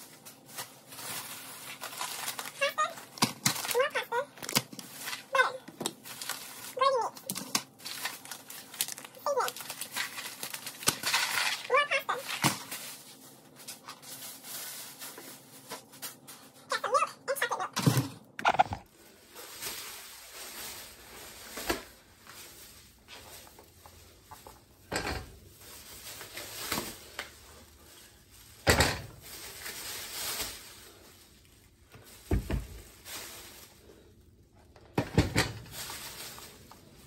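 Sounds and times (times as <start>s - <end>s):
plastic bags rustling: 0.0s - 16.7s, 18.5s - 37.0s.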